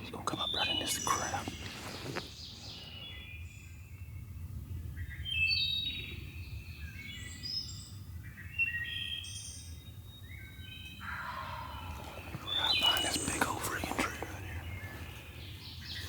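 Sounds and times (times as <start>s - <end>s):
songbirds singing: 0.0s - 16.0s.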